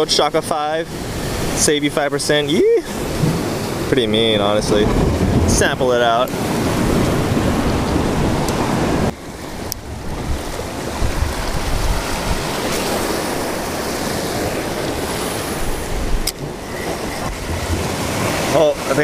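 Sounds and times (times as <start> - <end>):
ocean surf washing over rocks: 0.0 - 19.0
wind buffeting microphone: 0.8 - 19.0.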